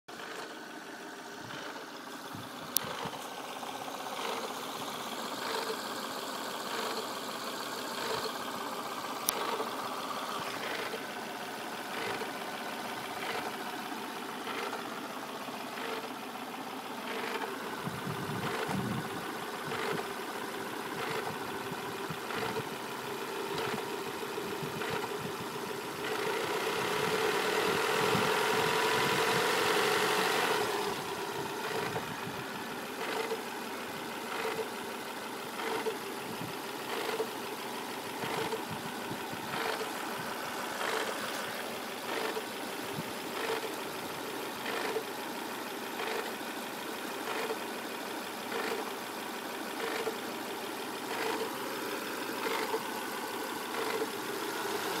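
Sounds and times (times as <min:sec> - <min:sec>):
car engine idling with rattle: 0:00.0 - 0:55.0.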